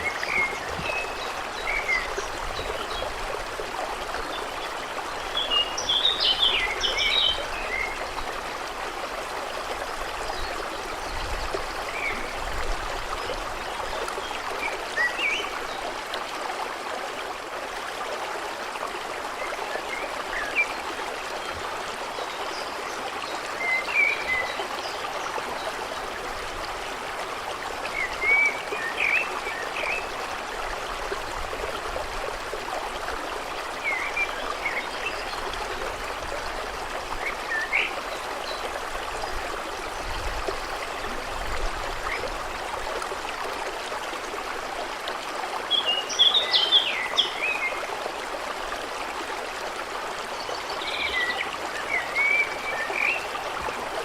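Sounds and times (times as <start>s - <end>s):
stream running over stones: 0.0s - 54.0s.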